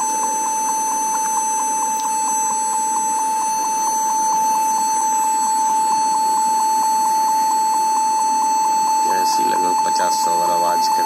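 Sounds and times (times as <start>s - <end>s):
laptop beeping rapidly: 0.0s - 11.0s.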